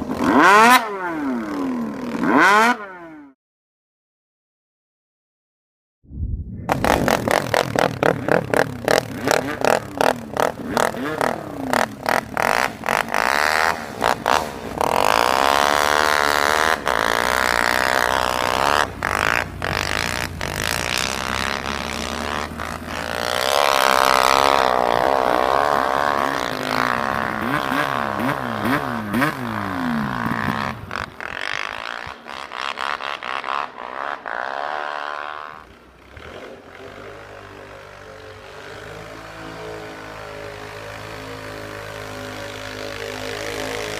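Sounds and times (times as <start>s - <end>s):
atv engine revving: 0.0s - 3.4s, 6.7s - 43.9s.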